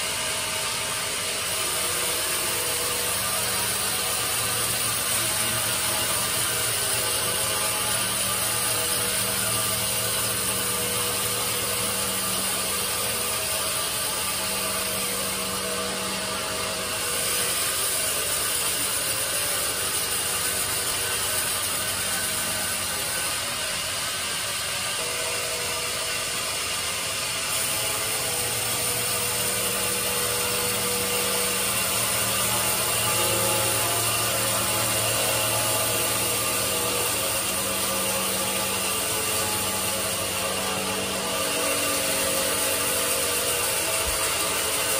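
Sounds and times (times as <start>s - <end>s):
band saw cutting log: 0.0s - 44.9s
machine hum: 0.0s - 44.9s.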